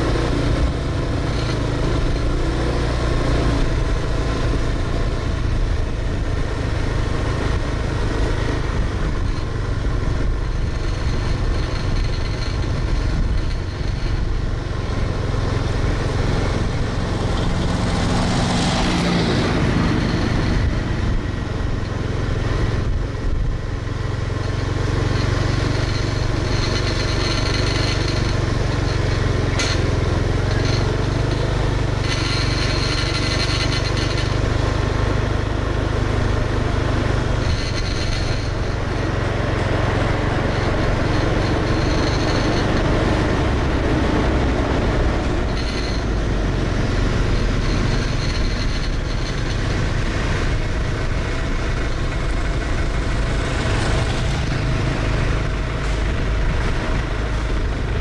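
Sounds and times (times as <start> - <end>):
motor scooter passing: 0.0 - 58.0
road and wind noise: 0.0 - 58.0
vehicle engine droning: 0.0 - 58.0.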